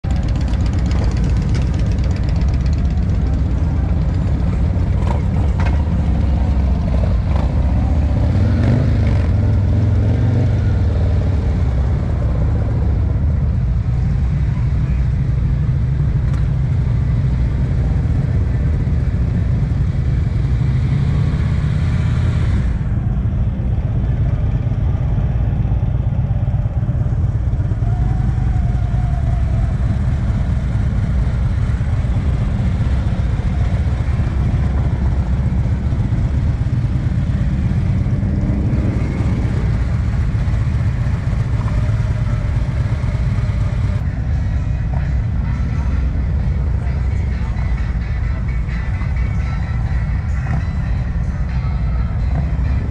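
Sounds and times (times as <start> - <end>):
low rumble of motorcycle engines: 0.0 - 52.9.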